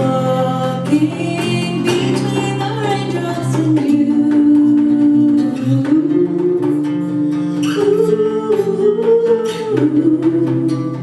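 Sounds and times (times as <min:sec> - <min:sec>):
acoustic guitar strumming: 0:00.0 - 0:11.0
woman singing long notes: 0:00.0 - 0:11.0
djembe hand beats: 0:00.9 - 0:11.0.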